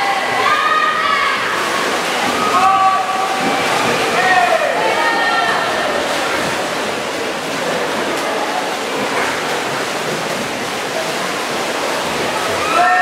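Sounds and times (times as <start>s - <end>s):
swimmers splashing in echoing pool: 0.0s - 13.0s.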